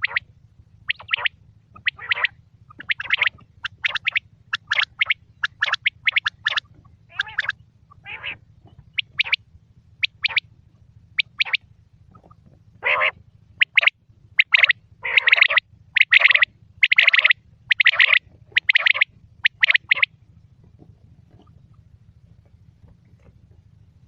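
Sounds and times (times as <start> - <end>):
quail calling: 0.0 - 9.4, 10.0 - 10.5, 11.1 - 20.1, 20.7 - 23.4
low hum: 0.0 - 24.0.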